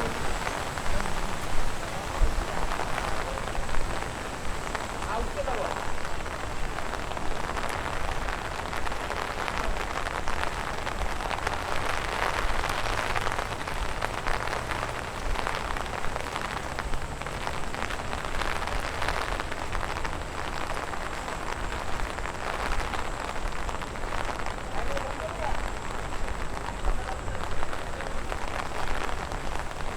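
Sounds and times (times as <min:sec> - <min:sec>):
steady rain falling: 0:00.0 - 0:29.9.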